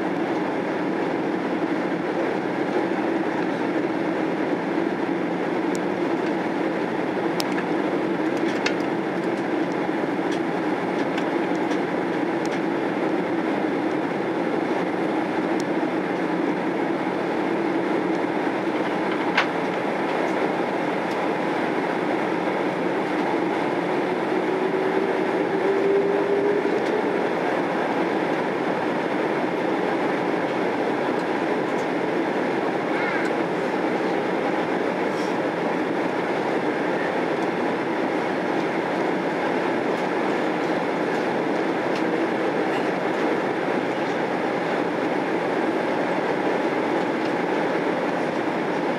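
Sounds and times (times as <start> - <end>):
jet engines and airflow rushing: 0.0 - 48.9
low cabin hum: 0.1 - 48.9.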